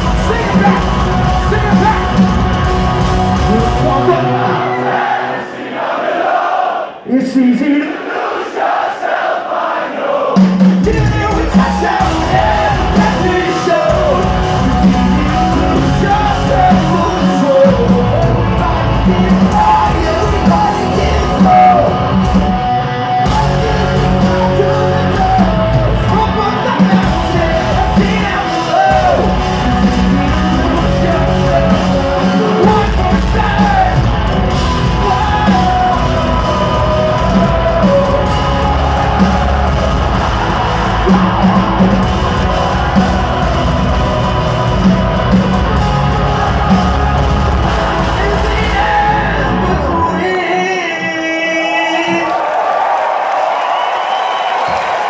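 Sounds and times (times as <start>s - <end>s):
hard rock band playing: 0.0s - 5.6s, 10.2s - 52.2s
man singing and yelling: 0.0s - 5.6s, 7.0s - 8.2s, 9.6s - 52.6s.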